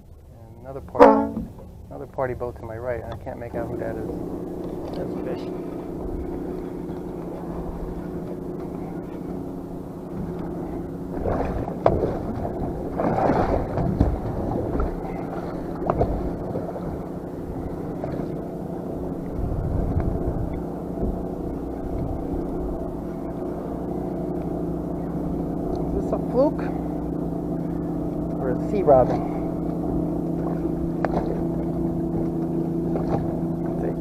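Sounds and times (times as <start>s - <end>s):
boat engine idling: 0.0s - 34.0s.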